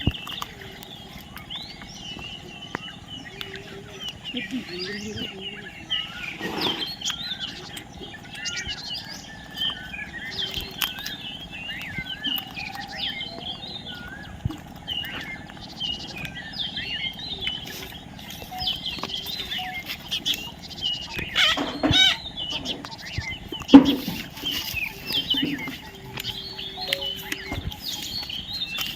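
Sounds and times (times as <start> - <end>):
sharp clicks: 0.0 - 5.2, 6.6 - 28.9
parrots chirping and chattering: 0.0 - 28.9.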